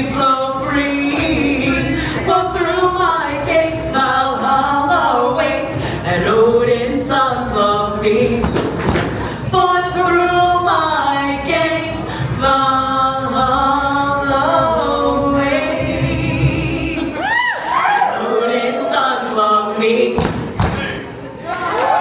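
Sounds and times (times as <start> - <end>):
voices singing in harmony: 0.0 - 21.6.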